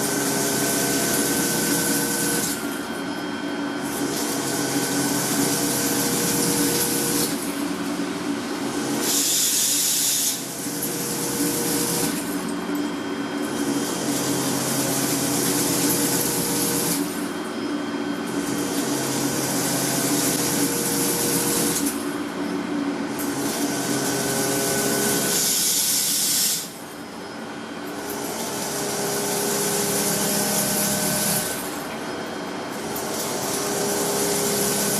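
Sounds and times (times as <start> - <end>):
gear-cutting machinery humming: 0.0 - 34.9.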